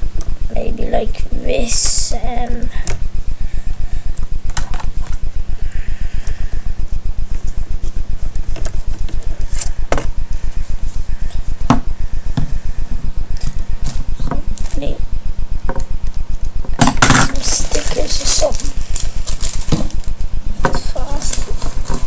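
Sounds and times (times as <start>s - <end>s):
pulsing electrical buzz: 0.0s - 22.0s.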